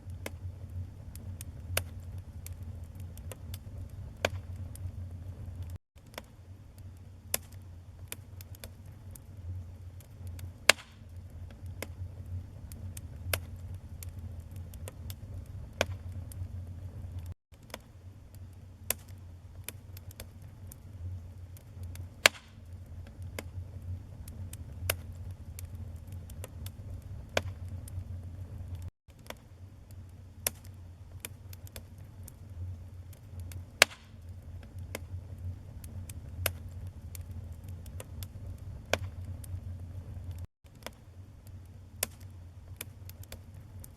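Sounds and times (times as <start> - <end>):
fire crackling and popping: 0.0 - 43.9
fire rumbling: 0.0 - 43.9.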